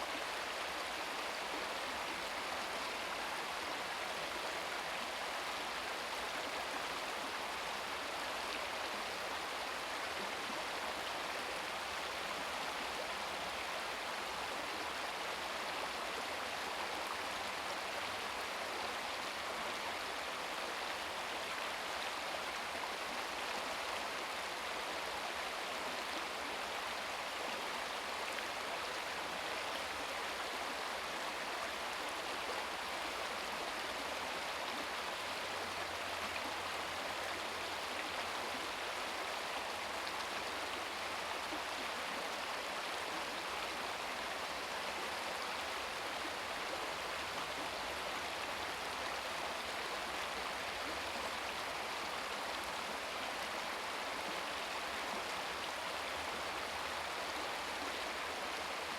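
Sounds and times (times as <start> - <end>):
brook babbling over stones: 0.0 - 58.9.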